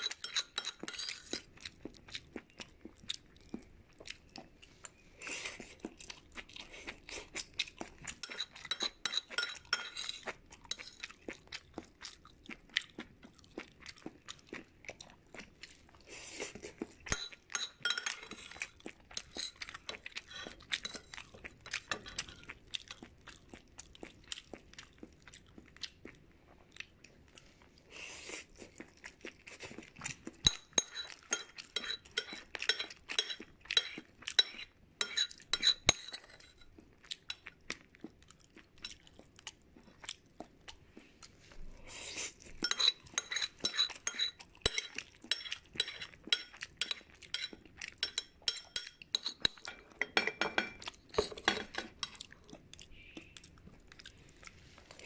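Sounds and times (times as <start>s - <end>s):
wet chewing and crunching: 0.0s - 55.0s.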